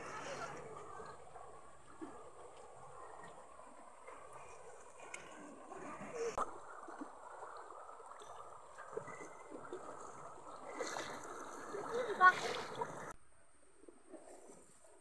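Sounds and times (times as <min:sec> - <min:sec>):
splashes of wading: 0:00.0 - 0:13.2
stream running over rocks: 0:00.0 - 0:13.2.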